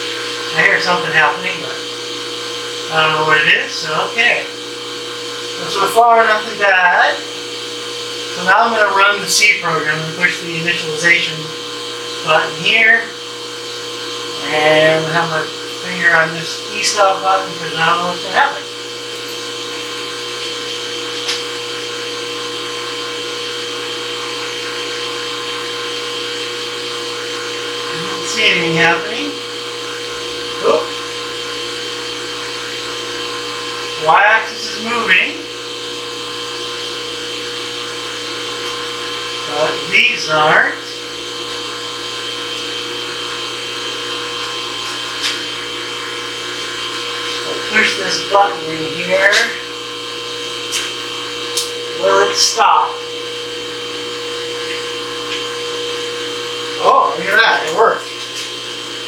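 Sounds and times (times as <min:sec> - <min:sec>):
milling machine hum and whine: 0:00.0 - 0:59.0.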